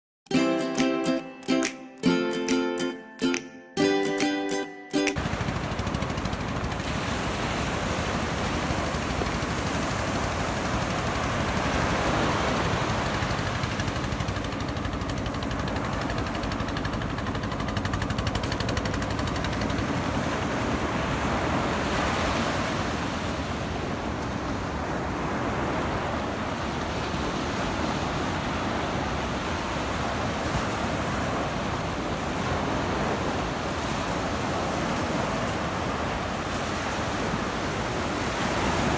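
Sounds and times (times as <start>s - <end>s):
surf breaking on beach: 5.1s - 38.9s.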